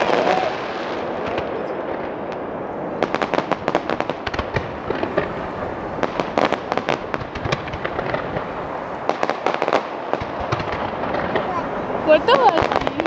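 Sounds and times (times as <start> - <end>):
fireworks banging: 0.0 - 13.0
steady background noise: 0.0 - 13.0.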